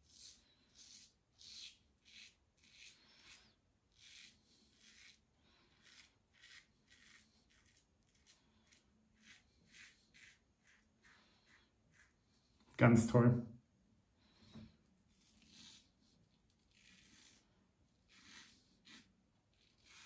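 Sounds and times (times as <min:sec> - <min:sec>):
razor scraping stubble: 0:00.0 - 0:12.3, 0:14.5 - 0:20.0.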